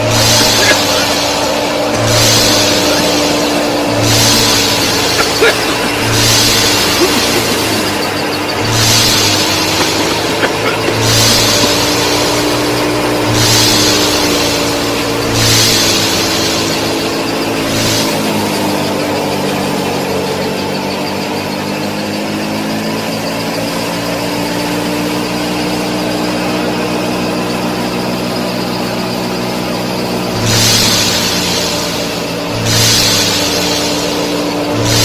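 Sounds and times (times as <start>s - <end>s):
short hissing bursts: 0.0s - 21.1s, 26.1s - 35.0s
machine motor humming: 0.0s - 35.0s.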